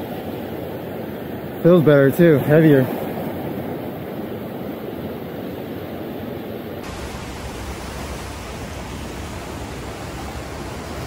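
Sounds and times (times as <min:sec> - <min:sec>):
surf washing over shallows: 0:00.0 - 0:11.0.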